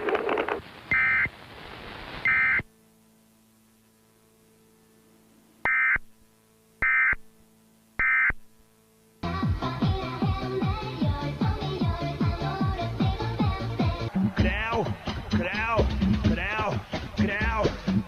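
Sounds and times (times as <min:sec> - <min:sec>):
faint hum: 0:00.0 - 0:18.0
static hiss: 0:00.0 - 0:18.0.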